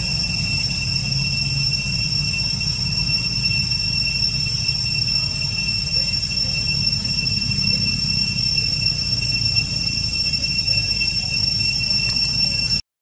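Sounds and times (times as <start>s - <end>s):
high-pitched whine: 0.0s - 12.8s.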